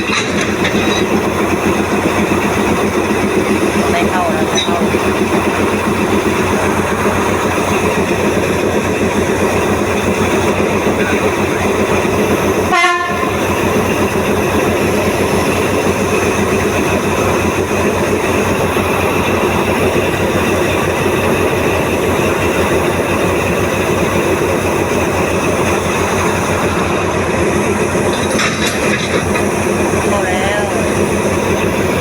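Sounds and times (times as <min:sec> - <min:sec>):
diesel locomotive running: 0:00.0 - 0:32.0.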